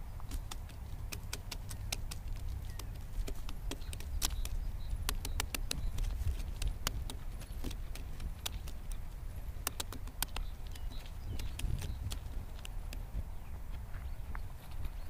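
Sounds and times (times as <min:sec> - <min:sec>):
sharp taps and clicks: 0:00.2 - 0:13.2.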